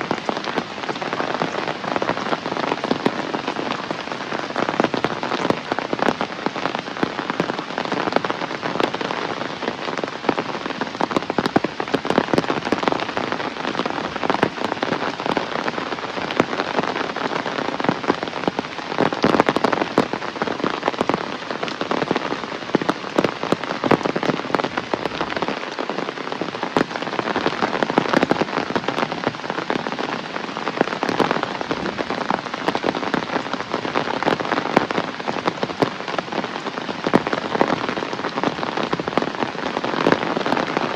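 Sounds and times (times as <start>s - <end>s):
heavy rain on hard surfaces: 0.0s - 40.9s.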